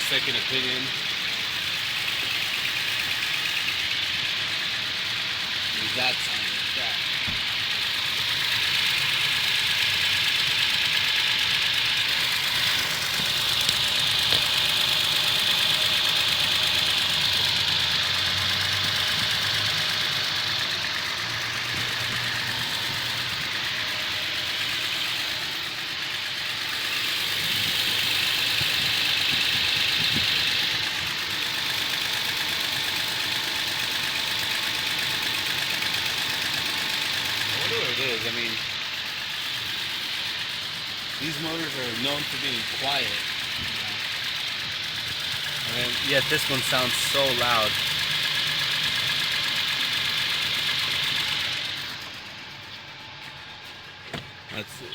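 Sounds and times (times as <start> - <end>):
loud ticking clatter: 0.0 - 54.9
pickup engine idling: 0.0 - 54.9.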